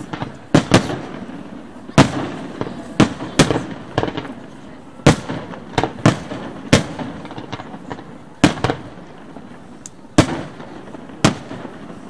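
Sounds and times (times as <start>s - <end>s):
faint fireworks pops: 0.0s - 12.0s
fireworks bangs: 0.0s - 12.0s.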